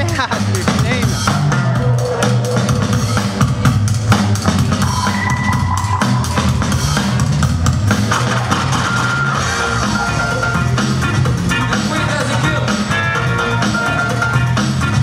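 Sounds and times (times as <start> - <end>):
loud music with drums and bass: 0.0 - 15.0.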